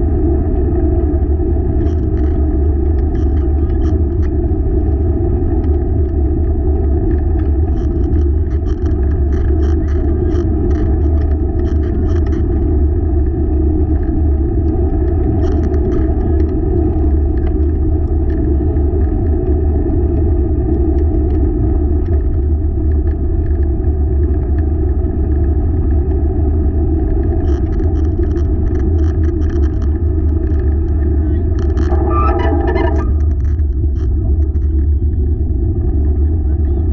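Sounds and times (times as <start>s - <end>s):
wheeled cart rolling rumble: 0.0s - 36.9s.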